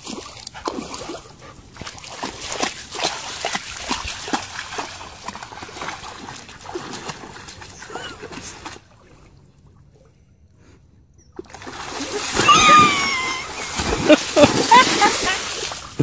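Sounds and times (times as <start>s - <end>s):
dog splashing through water: 0.0s - 9.2s, 11.4s - 16.0s.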